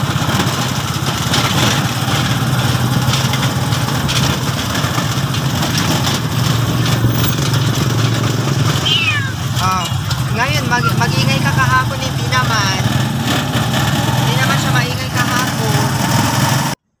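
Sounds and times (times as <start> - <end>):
motorcycle engine droning: 0.0 - 16.8.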